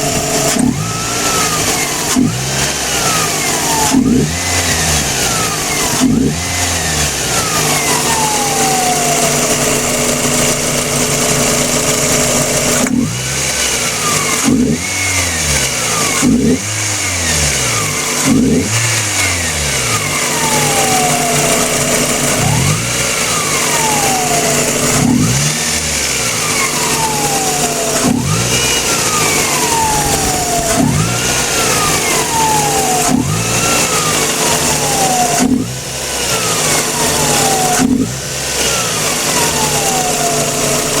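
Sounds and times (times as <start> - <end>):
alternator whine: 0.0 - 14.4, 17.5 - 41.0
car engine revving: 0.0 - 41.0.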